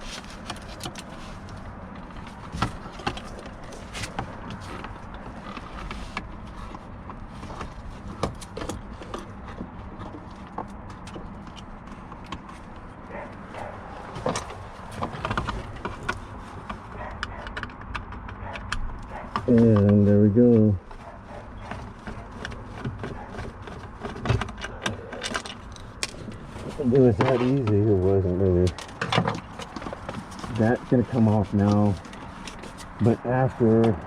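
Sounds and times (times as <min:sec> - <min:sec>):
hand tools clicking and tapping: 0:00.0 - 0:34.0.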